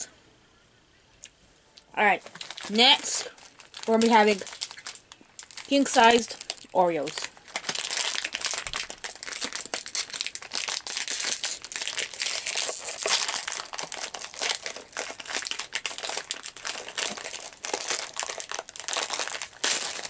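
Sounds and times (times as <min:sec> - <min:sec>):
plastic wrapper crinkling: 0:01.8 - 0:20.0.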